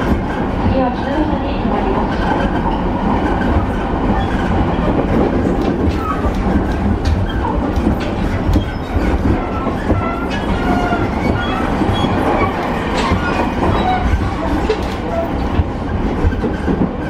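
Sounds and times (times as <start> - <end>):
rail joint clicks: 0.0 - 17.0
wheels rumbling on track: 0.0 - 17.0.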